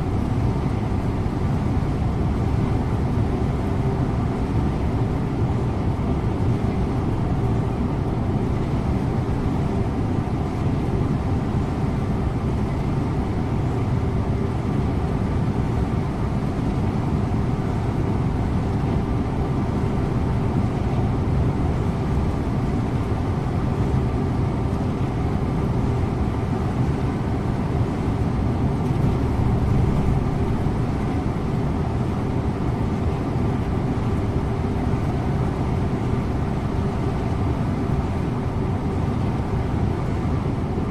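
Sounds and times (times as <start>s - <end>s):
bus engine drone: 0.0s - 40.9s
road and tyre rumble: 0.0s - 40.9s.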